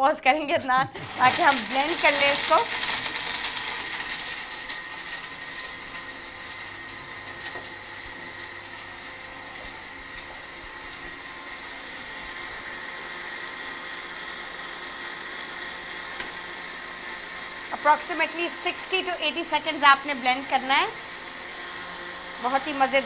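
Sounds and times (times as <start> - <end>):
blender running: 0.3 - 23.0.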